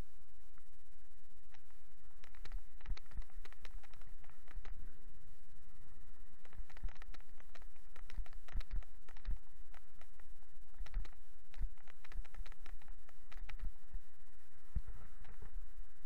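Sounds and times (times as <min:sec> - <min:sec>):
low rumble of rolling bike: 0:00.0 - 0:16.0.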